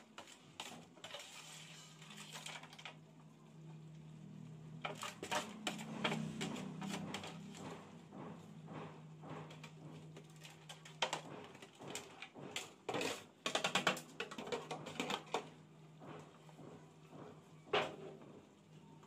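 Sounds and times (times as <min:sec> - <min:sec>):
spoon stirring sauce in a pot: 0:00.0 - 0:15.9.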